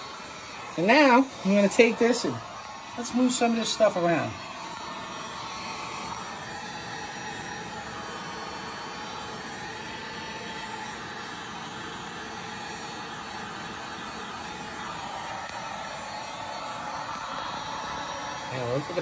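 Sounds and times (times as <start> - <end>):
heat gun fan hissing: 0.0 - 19.0.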